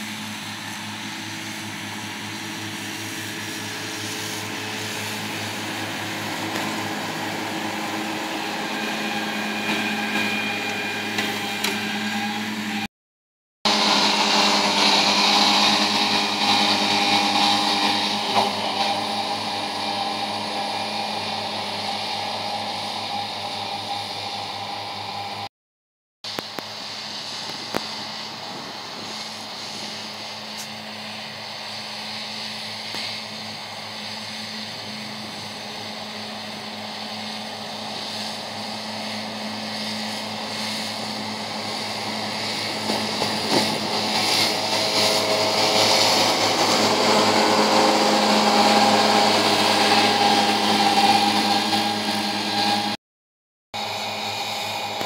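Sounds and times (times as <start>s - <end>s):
disc mower cutting hay: 0.0s - 12.9s, 13.7s - 25.5s, 26.3s - 53.0s, 53.8s - 55.0s
tractor diesel engine: 0.0s - 12.9s, 13.7s - 25.5s, 26.3s - 53.0s, 53.8s - 55.0s.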